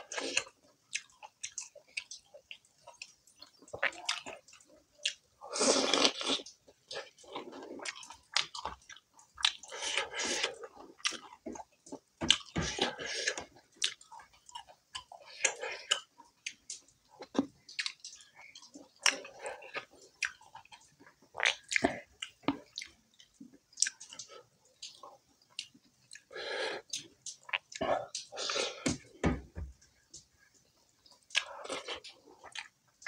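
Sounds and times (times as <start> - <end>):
wet chewing mouth sounds: 0.0 - 29.2, 30.7 - 32.8.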